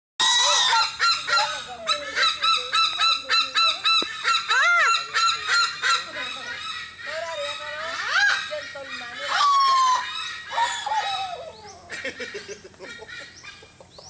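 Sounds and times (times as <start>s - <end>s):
bird laugh-like calls: 0.2s - 14.0s.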